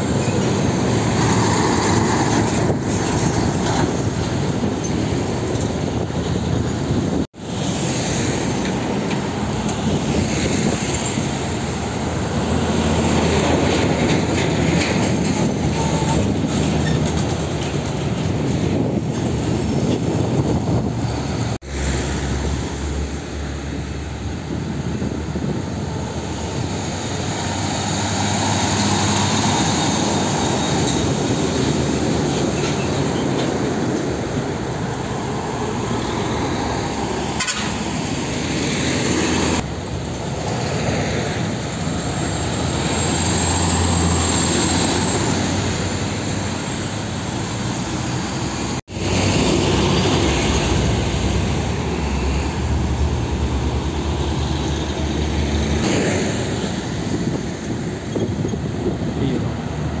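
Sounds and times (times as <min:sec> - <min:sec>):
diesel trucks passing: 0:00.0 - 1:00.0.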